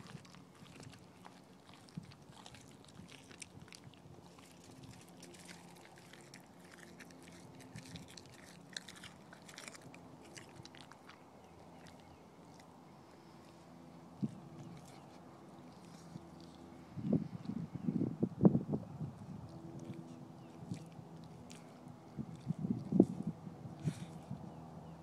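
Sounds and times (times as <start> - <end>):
dog chewing wet food: 0.0 - 17.6, 19.1 - 25.0.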